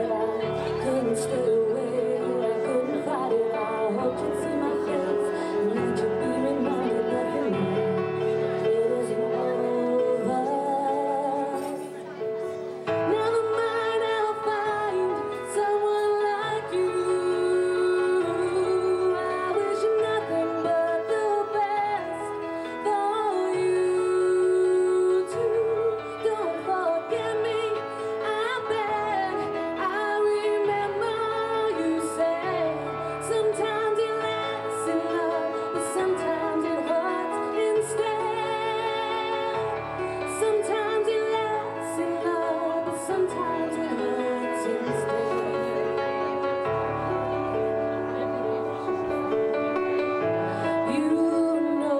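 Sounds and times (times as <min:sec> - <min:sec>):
person singing with vibrato: 0:00.0 - 0:47.4, 0:49.4 - 0:51.9
music with held notes: 0:00.0 - 0:51.9.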